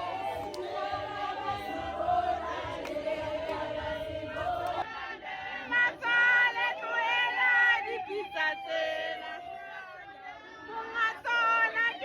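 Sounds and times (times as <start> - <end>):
group singing and chanting: 0.0 - 12.0.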